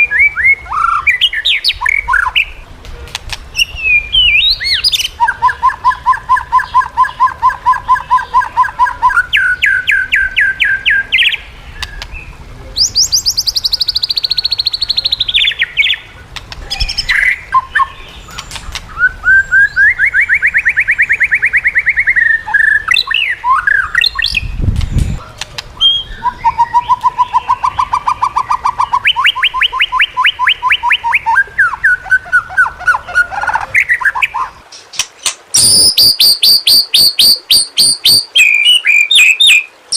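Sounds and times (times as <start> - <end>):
songbird singing loudly: 0.0 - 2.6, 3.5 - 39.9.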